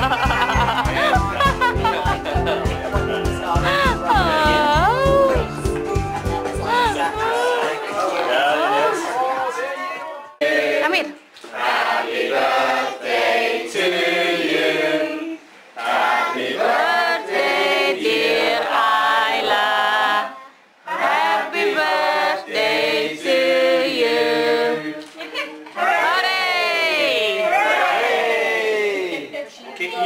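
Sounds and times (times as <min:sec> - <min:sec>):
group singing a birthday song: 0:00.0 - 0:28.6.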